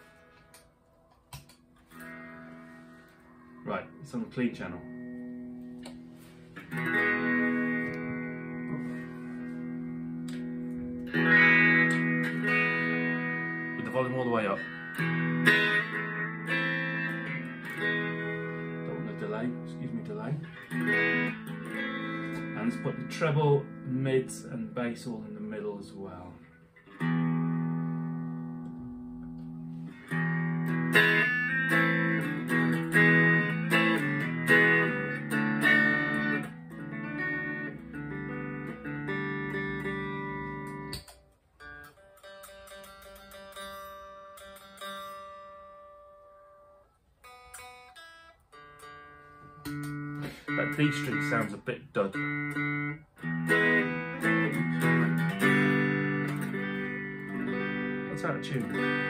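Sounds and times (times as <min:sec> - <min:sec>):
clean electric guitar: 0:00.0 - 0:59.0.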